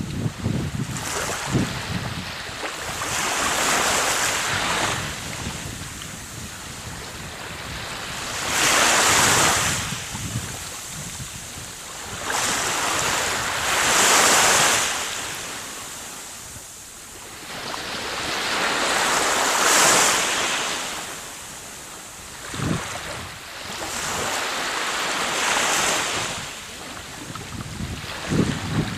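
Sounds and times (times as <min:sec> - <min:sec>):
wind buffeting microphone: 0:00.0 - 0:20.2, 0:21.5 - 0:28.9
waves washing onto beach: 0:00.0 - 0:28.9.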